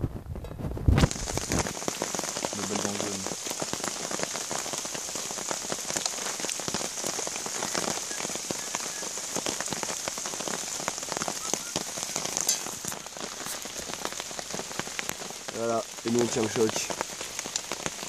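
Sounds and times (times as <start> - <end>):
rain falling: 0.0 - 18.0
raindrops striking: 0.0 - 18.0.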